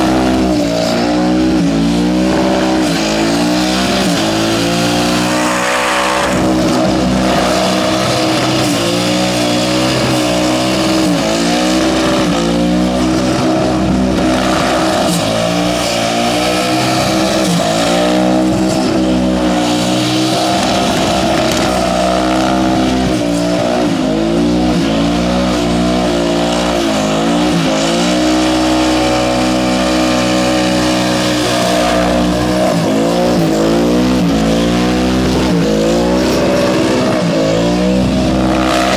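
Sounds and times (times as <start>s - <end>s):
car engine at high revs: 0.0s - 38.9s.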